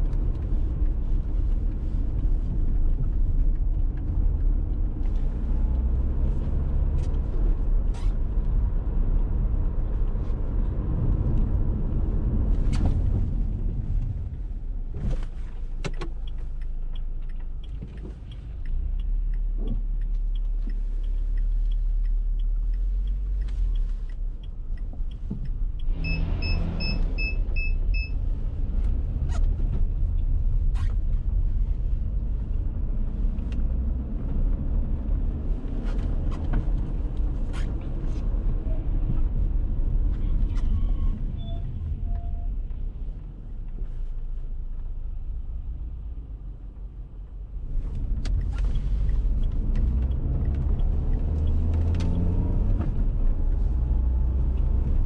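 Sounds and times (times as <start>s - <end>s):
car engine rumble: 0.0s - 55.0s.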